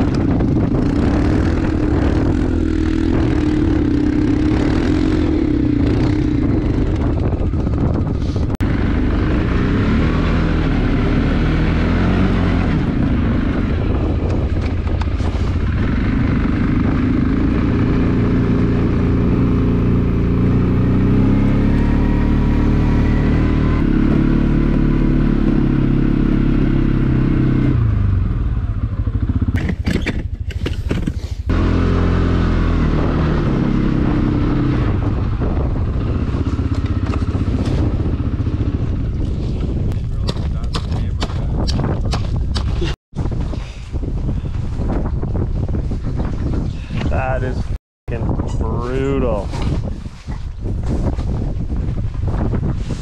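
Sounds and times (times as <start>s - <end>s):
atv engine running under load: 0.0s - 43.5s.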